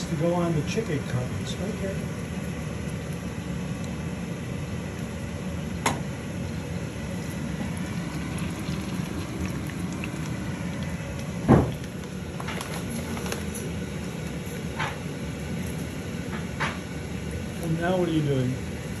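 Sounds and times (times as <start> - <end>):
butter simmering in a pan: 0.0 - 17.7.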